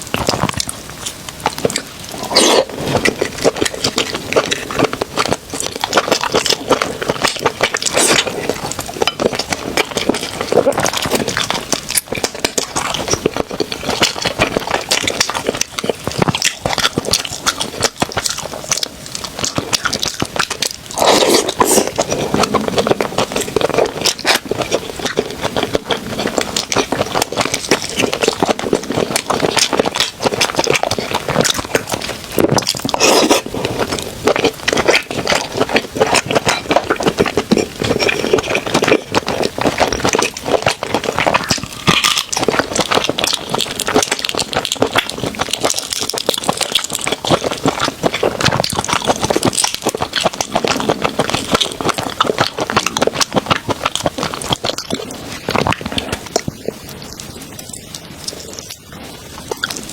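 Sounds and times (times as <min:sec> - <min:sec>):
shells crackling while chewing: 0:00.0 - 0:59.9.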